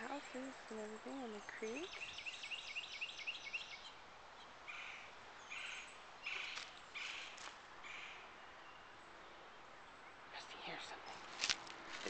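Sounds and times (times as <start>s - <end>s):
bird chirping: 0.0s - 11.3s.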